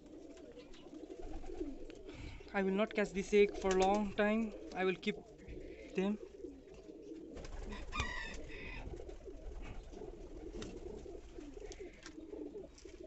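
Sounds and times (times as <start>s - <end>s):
higher pigeon calls: 0.0s - 13.0s
pigeons cooing: 0.0s - 13.0s.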